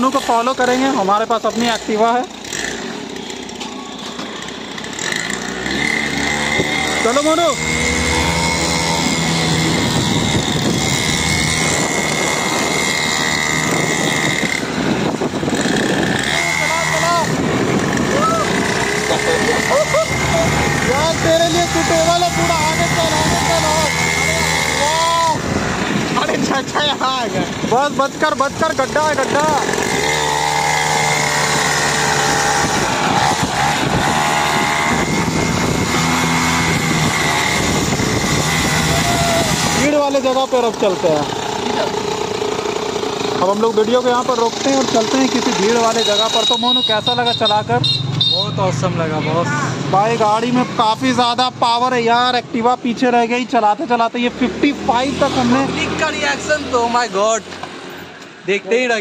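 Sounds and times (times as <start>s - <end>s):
road noise: 0.0s - 59.0s
scooter and dirt bike engines: 0.0s - 59.0s.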